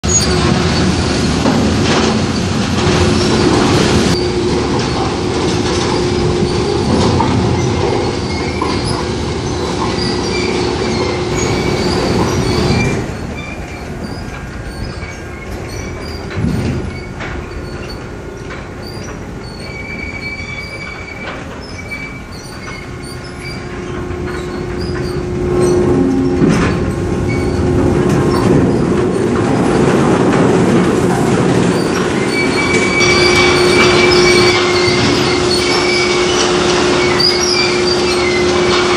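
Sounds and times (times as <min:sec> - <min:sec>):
log conveyor clatter: 0:00.0 - 0:38.9.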